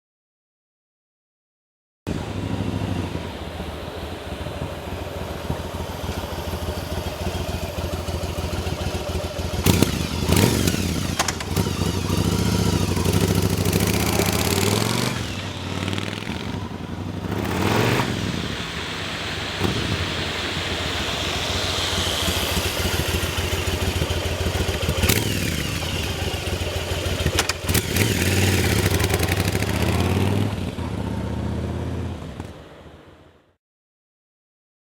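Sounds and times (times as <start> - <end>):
motorcycle engine revving: 2.1 - 32.6
sharp exhaust cracks: 2.2 - 30.8.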